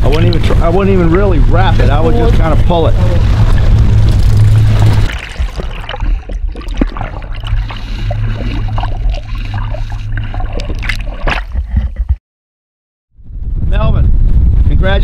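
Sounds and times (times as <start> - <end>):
gurgling water: 0.0 - 12.1
muffled boat engine drone underwater: 0.0 - 12.1.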